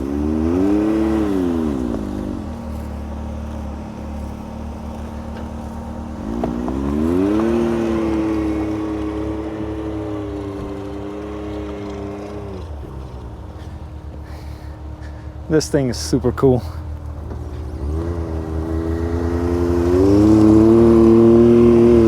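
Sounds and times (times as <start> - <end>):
side-by-side engine revving: 0.0 - 22.0.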